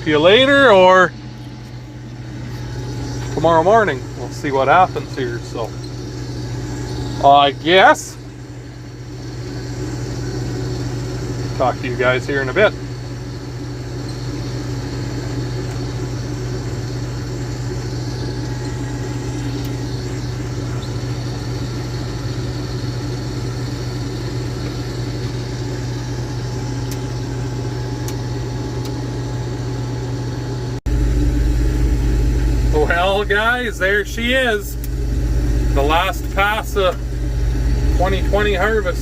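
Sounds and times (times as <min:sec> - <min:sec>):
combine harvester low drone: 0:00.0 - 0:39.0.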